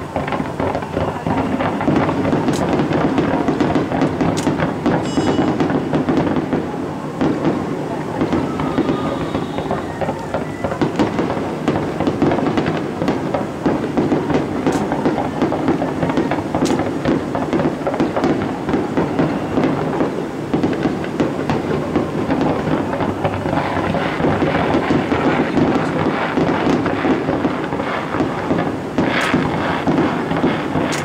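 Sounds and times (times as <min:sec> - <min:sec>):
fireworks crackling and popping: 0:00.0 - 0:31.0
sharp firework cracks: 0:00.0 - 0:31.0.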